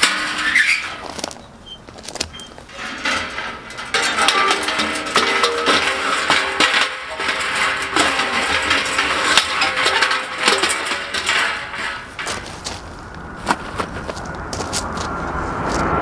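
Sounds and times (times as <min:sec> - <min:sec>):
metal frame clinking and rattling: 0:00.0 - 0:14.3.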